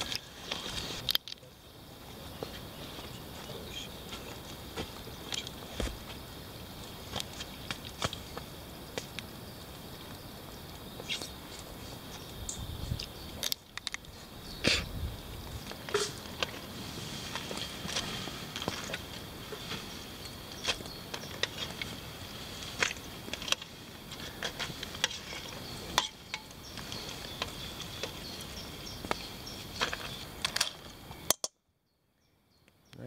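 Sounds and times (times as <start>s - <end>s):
insect chirring: 0.0s - 31.5s.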